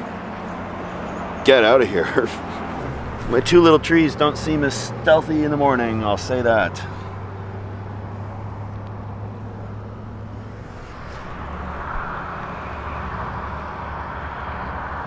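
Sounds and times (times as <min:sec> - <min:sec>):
highway traffic: 0:00.0 - 0:15.0
passing vehicle tyre noise: 0:00.0 - 0:15.0.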